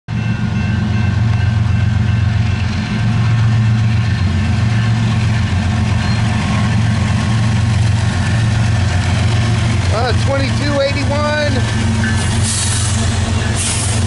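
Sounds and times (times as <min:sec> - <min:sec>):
diesel locomotive engine drone: 0:00.1 - 0:14.0.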